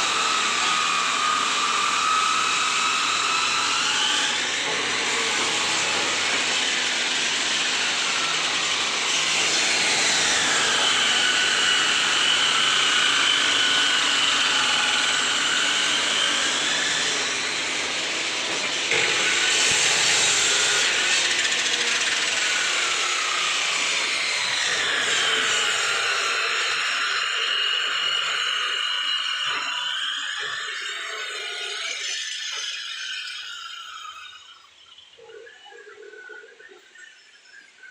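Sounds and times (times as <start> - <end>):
power tool cutting wood: 0.0 - 36.6.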